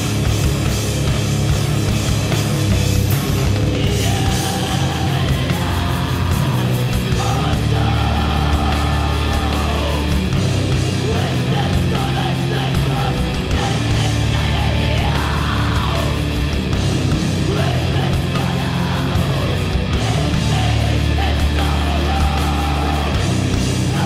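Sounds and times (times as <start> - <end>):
distorted rock band playing: 0.0 - 24.0.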